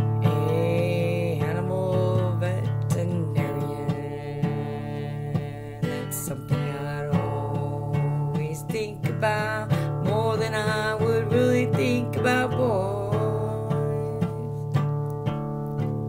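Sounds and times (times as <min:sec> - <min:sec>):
woman singing: 0:00.0 - 0:14.9
acoustic guitar strummed: 0:00.0 - 0:16.0.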